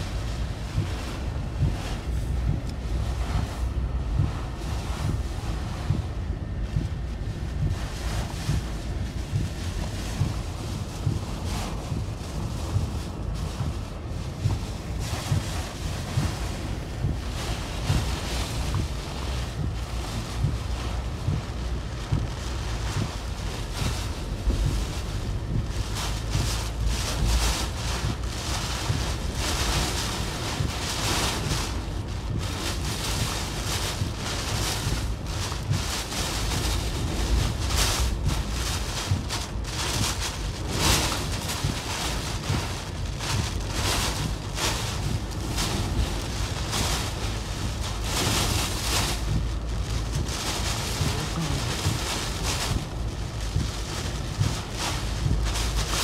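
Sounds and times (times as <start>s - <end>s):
driving rain: 0.0s - 56.0s
strong wind gusts: 0.0s - 56.0s
wind buffeting microphone: 0.0s - 56.0s.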